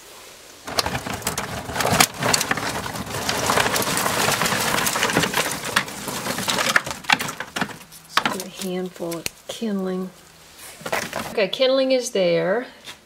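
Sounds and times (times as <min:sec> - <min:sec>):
twigs rustling and snapping: 0:00.7 - 0:11.4.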